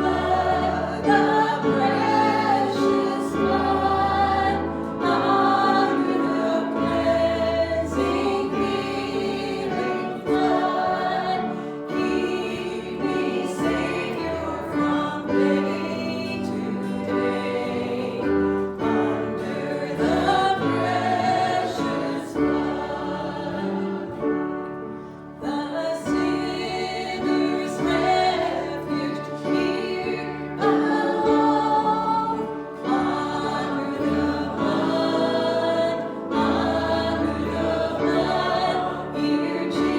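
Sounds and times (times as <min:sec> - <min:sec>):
group singing a hymn: 0:00.0 - 0:39.9.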